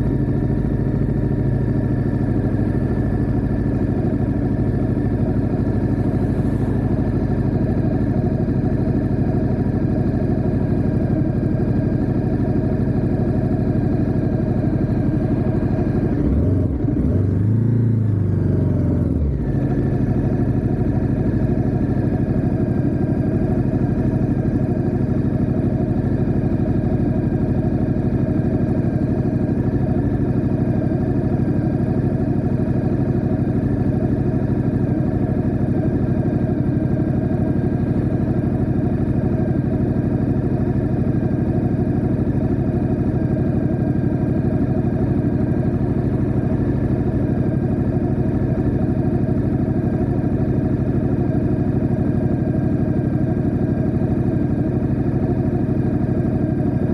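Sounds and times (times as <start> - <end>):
motorcycle engine running steadily: 0.0 - 56.9.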